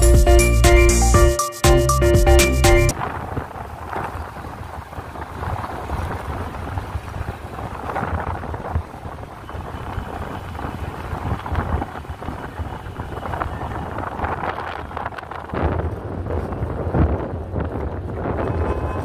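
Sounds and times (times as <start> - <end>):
wind rushing over microphone: 2.9 - 19.0.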